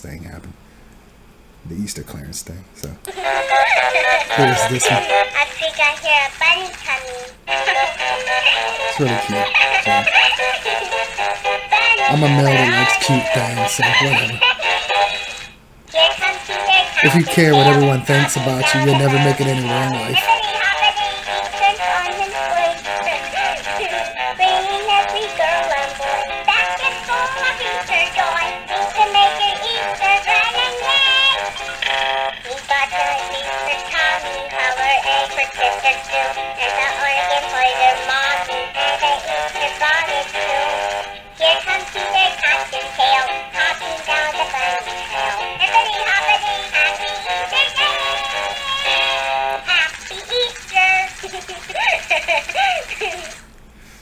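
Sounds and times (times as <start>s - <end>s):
toy synthetic singing voice: 3.1s - 53.4s.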